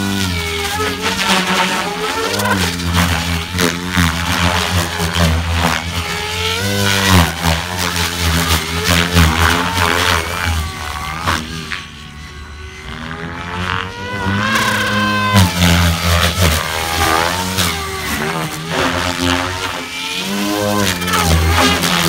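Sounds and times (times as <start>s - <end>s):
rc helicopter motor whine: 0.0s - 22.0s
rotor blade rushing: 0.0s - 22.0s.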